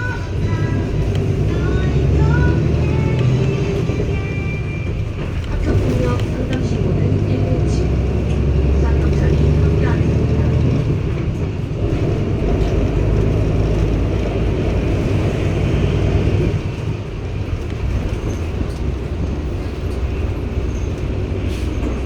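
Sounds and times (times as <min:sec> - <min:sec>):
bus engine humming: 0:00.0 - 0:22.0.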